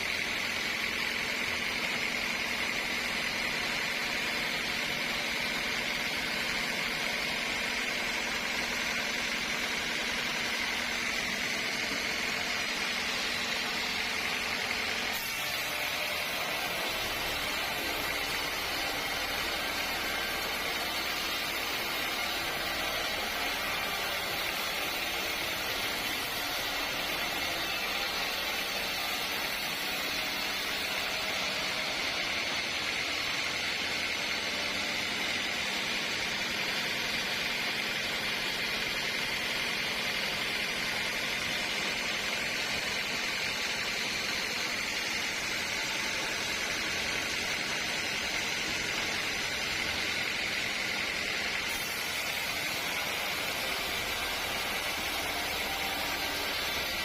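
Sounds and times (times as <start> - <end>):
sawmill machinery hissing and humming: 0.0 - 57.0.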